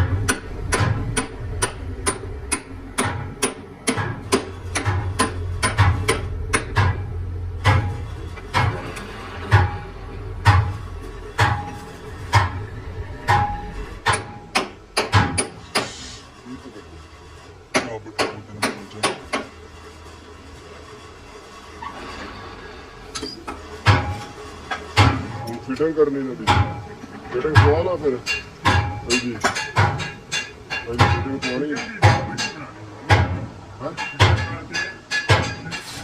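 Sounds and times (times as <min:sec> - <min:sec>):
hammer striking metal: 0:00.0 - 0:16.1, 0:17.7 - 0:19.6, 0:23.2 - 0:36.0
low machine hum: 0:00.0 - 0:35.8.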